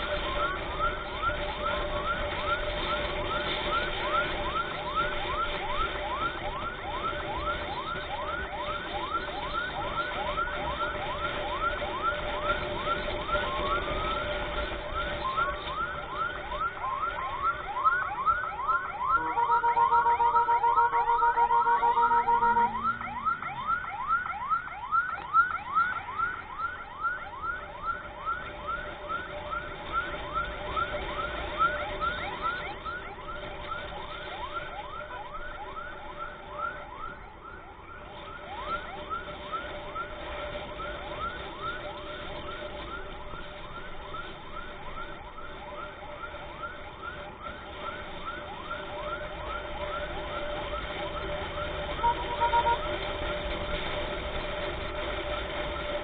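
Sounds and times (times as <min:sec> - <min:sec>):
emergency siren yelping: 0:00.0 - 0:56.0.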